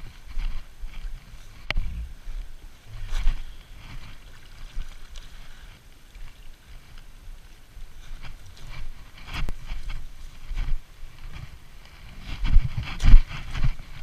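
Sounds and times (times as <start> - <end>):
footsteps crunching on dirt path: 0.0 - 14.0
leaves and stems rustling: 0.0 - 14.0.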